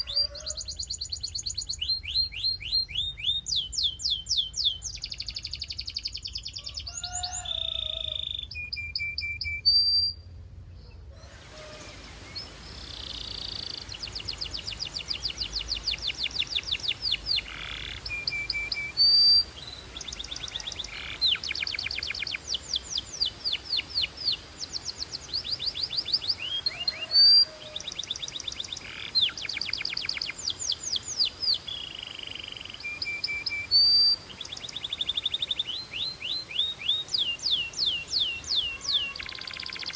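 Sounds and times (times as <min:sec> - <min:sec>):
canary singing trills: 0:00.0 - 0:10.2, 0:11.2 - 0:39.9.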